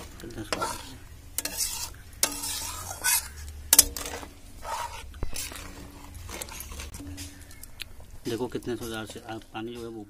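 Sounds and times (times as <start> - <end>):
metal spatula scraping pan: 0.0 - 7.6, 8.2 - 9.6
gravy simmering: 0.0 - 9.7.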